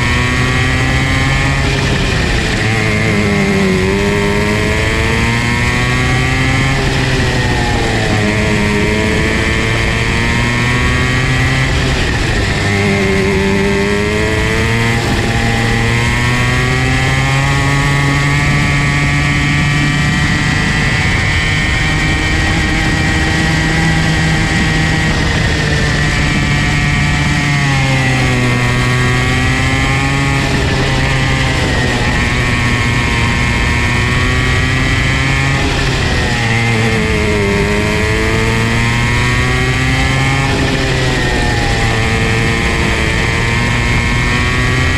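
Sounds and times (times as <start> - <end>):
kart engine buzzing: 0.0 - 44.9.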